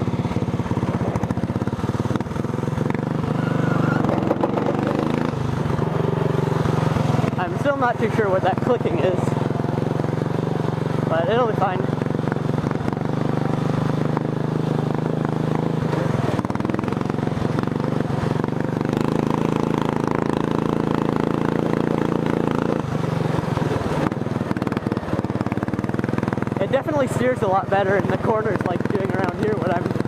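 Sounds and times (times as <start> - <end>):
lawn tractor engine running: 0.0 - 30.0.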